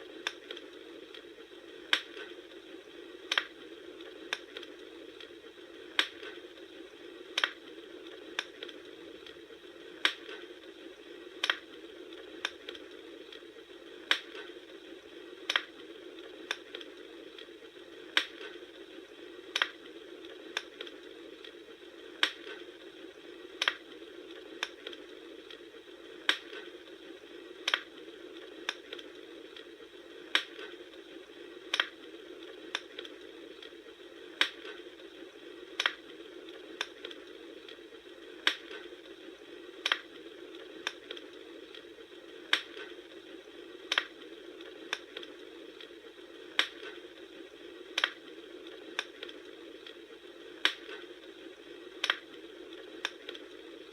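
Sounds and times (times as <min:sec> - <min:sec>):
bonfire crackling and popping: 0:00.0 - 0:53.9
steady fire hiss: 0:00.0 - 0:53.9.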